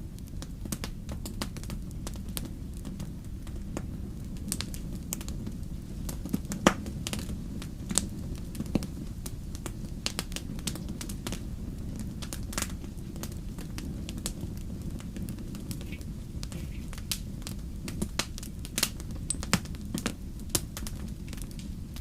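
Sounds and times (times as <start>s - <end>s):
campfire crackling and popping: 0.0s - 22.0s
steady low rumble: 0.0s - 22.0s.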